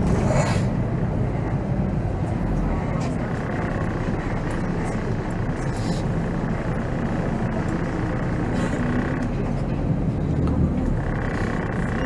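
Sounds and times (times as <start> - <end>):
diesel engine drone: 0.0 - 12.0
road noise: 0.0 - 12.0.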